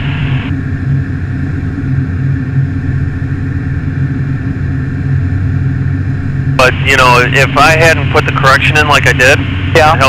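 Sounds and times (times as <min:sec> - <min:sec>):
aircraft engine and propeller drone: 0:00.0 - 0:10.0.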